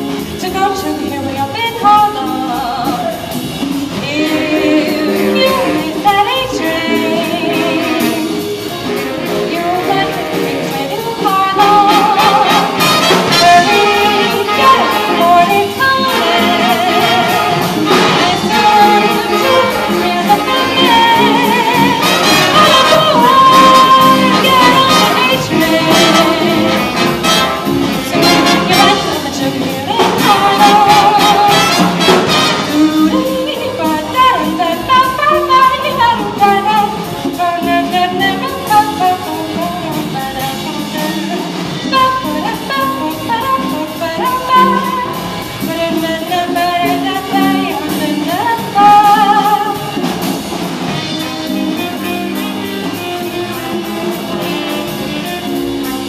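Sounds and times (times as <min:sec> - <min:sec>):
woman singing: 0:00.0 - 0:50.5
jazz big band playing swing: 0:00.0 - 0:56.0.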